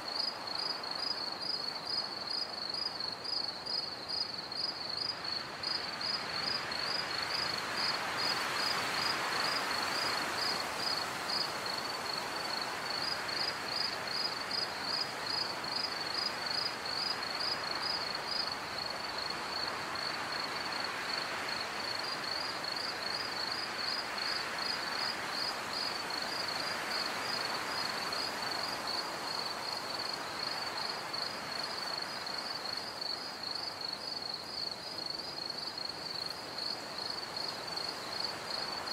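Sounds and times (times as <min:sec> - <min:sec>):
crickets chirping: 0:00.0 - 0:38.9
soft breeze hiss: 0:00.0 - 0:38.9.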